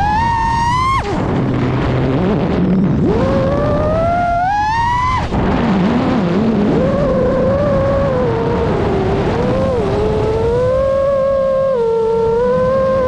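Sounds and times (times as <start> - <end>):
quadcopter motors whining: 0.0 - 13.0
rush of air: 0.0 - 13.0.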